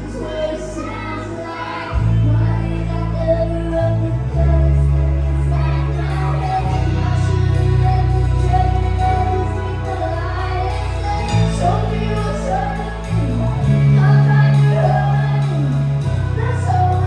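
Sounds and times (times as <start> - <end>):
live band playing pop song: 0.0 - 17.0
person singing: 0.0 - 17.0
sustained bass notes: 0.0 - 17.0.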